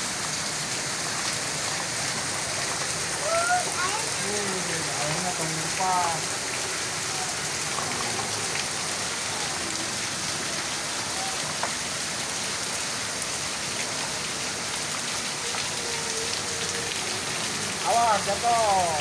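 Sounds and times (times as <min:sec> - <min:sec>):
rain on wet ground: 0:00.0 - 0:19.0.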